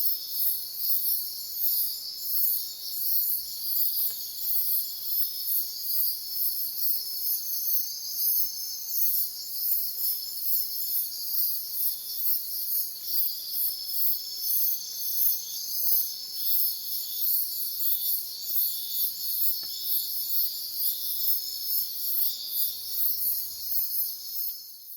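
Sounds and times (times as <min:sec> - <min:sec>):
crickets pulsing chirp: 0:00.0 - 0:24.9
insects steady high trills: 0:00.0 - 0:24.9.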